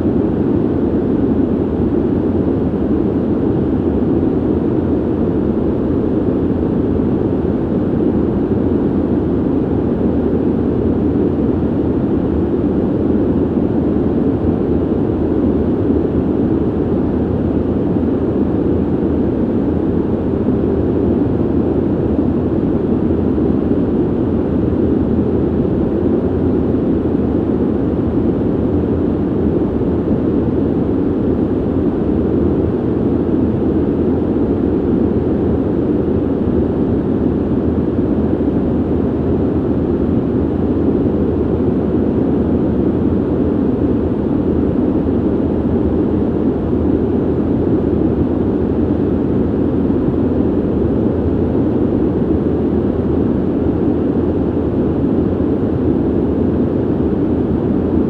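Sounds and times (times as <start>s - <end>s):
ventilation air rushing: 0.0s - 58.0s.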